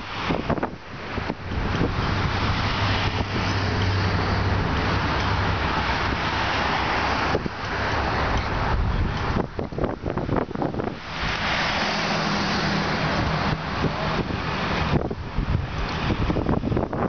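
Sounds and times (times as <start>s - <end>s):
broad rushing sound: 0.0s - 17.0s
vehicle engine humming: 0.0s - 17.0s.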